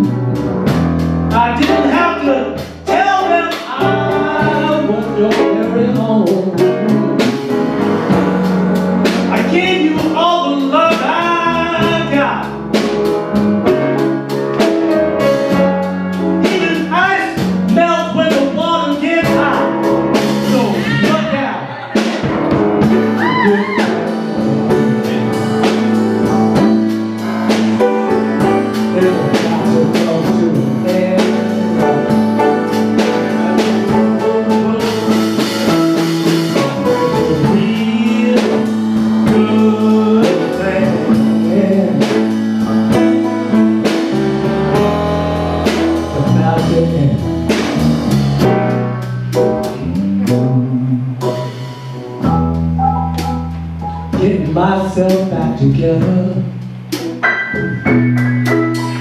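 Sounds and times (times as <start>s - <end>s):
blues band playing: 0.0s - 59.0s
electric bass guitar: 0.0s - 59.0s.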